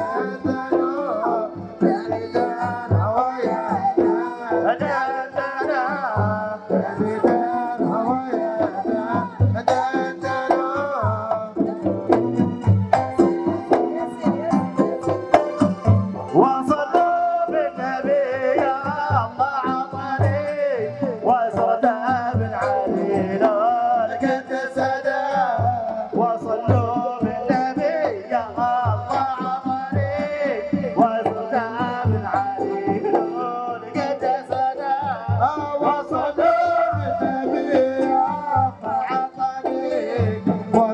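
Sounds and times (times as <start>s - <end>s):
barrel drums beating: 0.0s - 40.9s
person singing: 0.0s - 40.9s.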